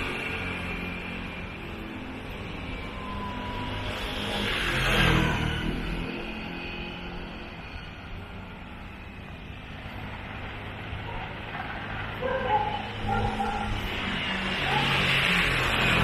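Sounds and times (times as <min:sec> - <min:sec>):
steady engine hum: 0:00.0 - 0:16.0.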